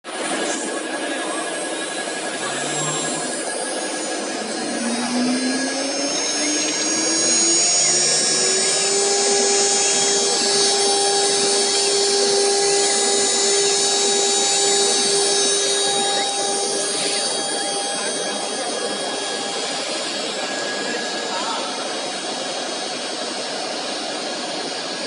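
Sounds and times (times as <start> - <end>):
router spindle whine: 0.1 - 25.0.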